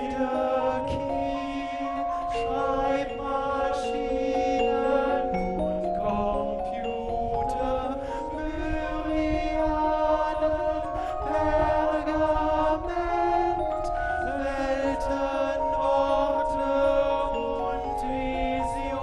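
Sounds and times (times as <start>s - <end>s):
choir chanting: 0.0s - 19.0s.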